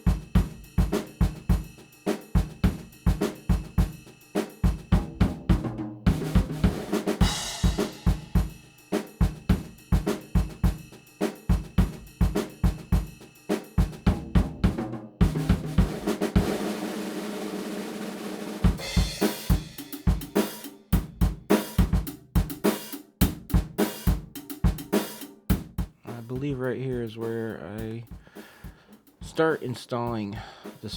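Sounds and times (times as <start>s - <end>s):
drum kit beat: 0.0s - 30.9s.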